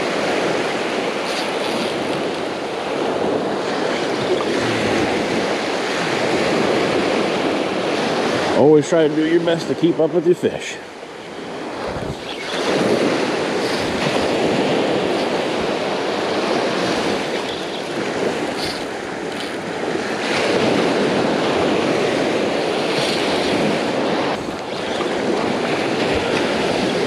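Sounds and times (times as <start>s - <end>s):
surf breaking on a beach: 0.0s - 27.0s.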